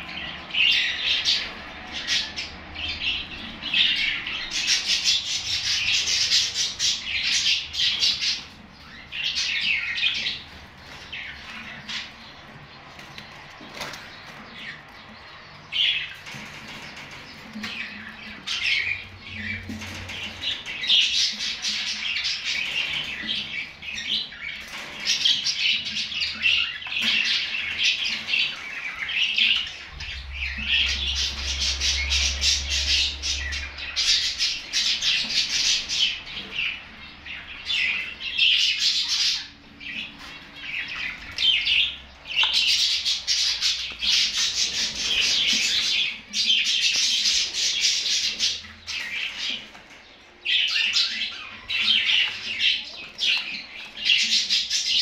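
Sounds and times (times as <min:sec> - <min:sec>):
nightingales singing: 0:00.0 - 0:55.0.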